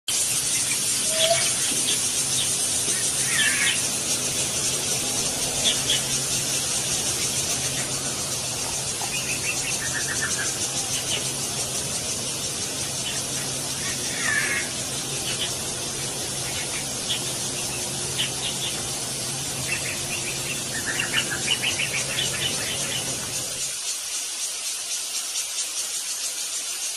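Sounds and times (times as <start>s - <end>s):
steady high-pitched hiss: 0.1s - 26.9s
birds chattering calls: 0.2s - 23.8s.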